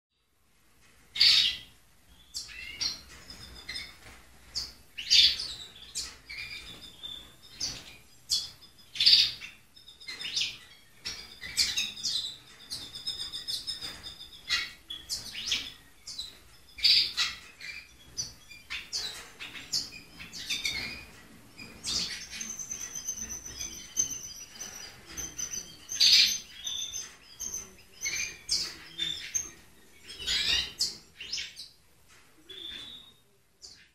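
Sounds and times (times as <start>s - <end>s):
birds chirping: 1.1s - 33.9s
rapid twittering birdsong: 1.1s - 33.9s.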